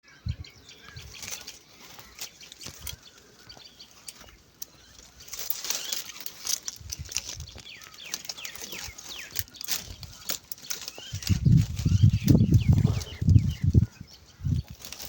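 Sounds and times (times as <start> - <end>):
small bird chirps: 0.0 - 15.0
loud rustling: 1.0 - 15.0.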